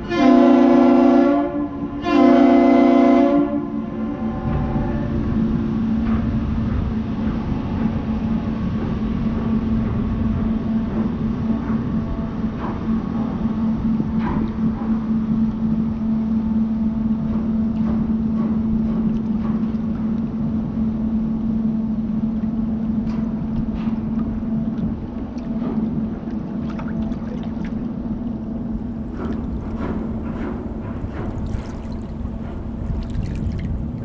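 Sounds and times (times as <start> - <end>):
ship machinery drone: 0.0 - 34.0.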